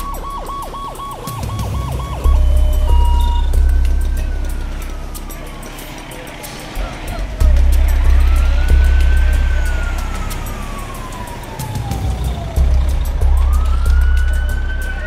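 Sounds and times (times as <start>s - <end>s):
siren wailing: 0.0s - 15.0s
deep low drone: 2.2s - 15.0s.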